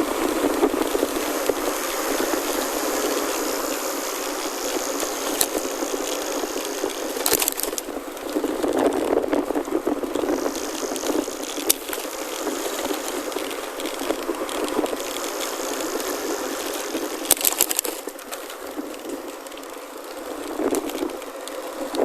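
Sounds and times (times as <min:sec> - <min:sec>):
bike rattling over bumps: 0:00.0 - 0:22.0
bike tyres crunching on gravel: 0:00.0 - 0:22.0.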